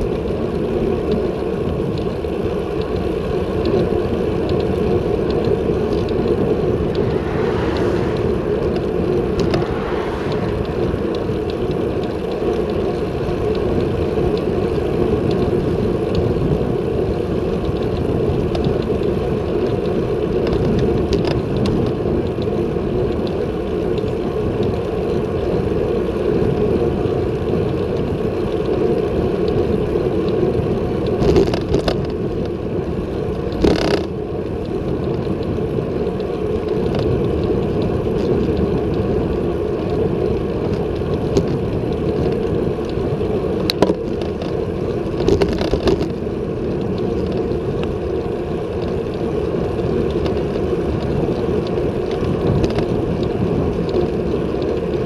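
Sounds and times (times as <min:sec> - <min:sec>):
wind rush on microphone: 0:00.0 - 0:55.0
bicycle tyre noise: 0:00.1 - 0:26.5, 0:27.1 - 0:55.0.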